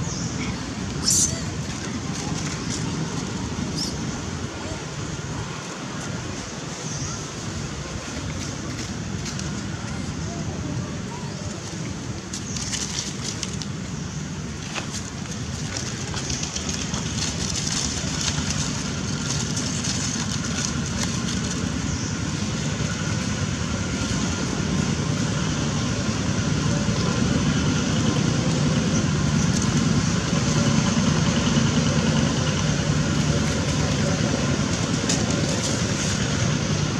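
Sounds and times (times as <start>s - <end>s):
low engine rumble: 0.0s - 36.9s.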